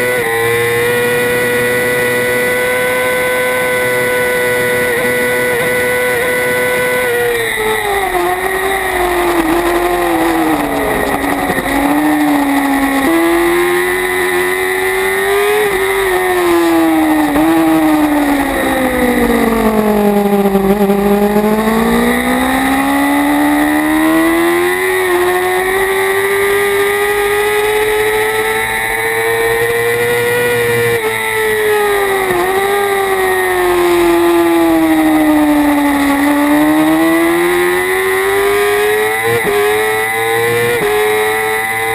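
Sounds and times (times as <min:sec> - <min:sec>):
sport bike engine revving: 0:00.0 - 0:41.9.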